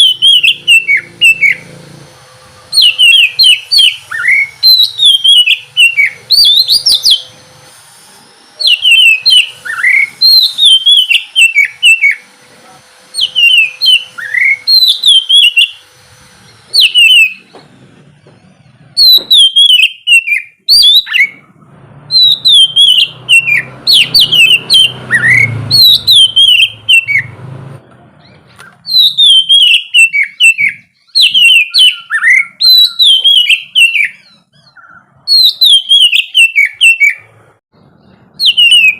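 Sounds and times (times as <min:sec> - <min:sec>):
bird singing whistled notes: 0:00.0 - 0:01.8, 0:02.6 - 0:07.4, 0:08.6 - 0:12.3, 0:13.2 - 0:15.9, 0:16.7 - 0:17.6, 0:19.0 - 0:21.4, 0:22.1 - 0:27.4, 0:28.2 - 0:38.9.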